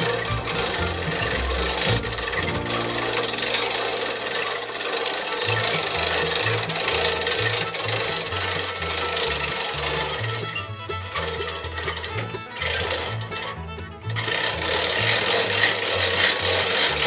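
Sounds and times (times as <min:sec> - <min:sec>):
background music with bass line: 0:00.0 - 0:17.0
hand-cranked winch rasping: 0:00.0 - 0:17.0.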